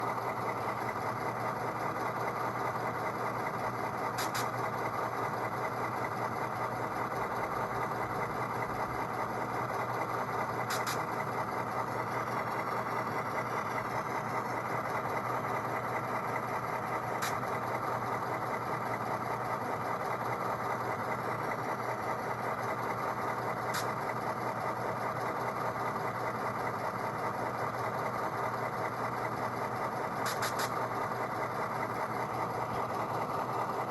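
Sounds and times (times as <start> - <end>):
model diesel engine idling: 0.0 - 33.9.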